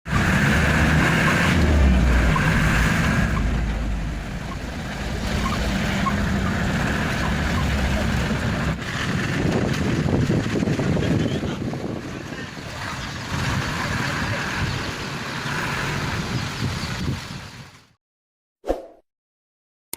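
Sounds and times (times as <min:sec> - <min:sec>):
truck engine running: 0:00.0 - 0:16.8
road and wind noise: 0:00.0 - 0:18.0.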